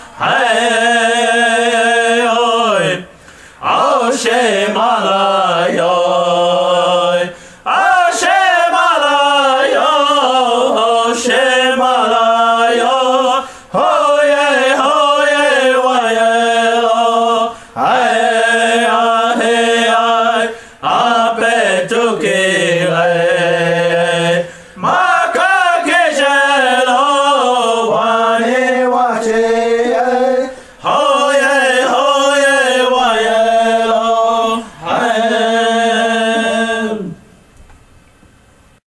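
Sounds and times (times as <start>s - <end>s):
person chanting a prayer song: 0.0s - 37.2s.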